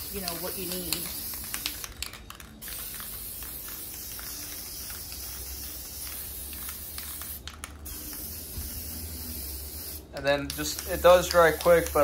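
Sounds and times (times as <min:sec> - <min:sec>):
aerosol spray hissing: 0:00.0 - 0:02.0, 0:02.6 - 0:12.0.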